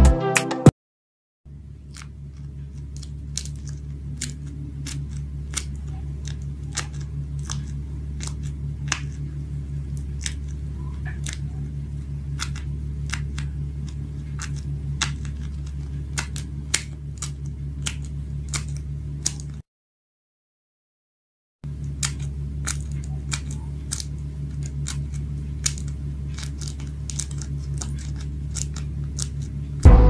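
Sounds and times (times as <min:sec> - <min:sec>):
low steady hum: 0:01.5 - 0:19.6, 0:21.6 - 0:30.0
paper bubbles clicking and popping: 0:01.6 - 0:19.6, 0:21.7 - 0:29.9.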